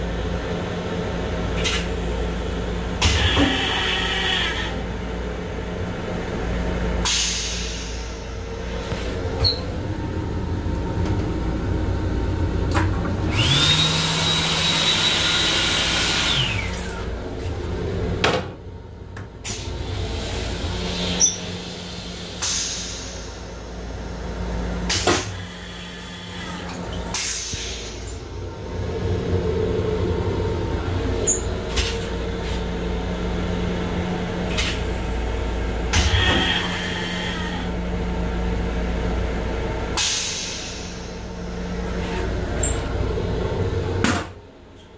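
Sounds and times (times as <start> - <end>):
train low rumble and hum: 0.0 - 44.9.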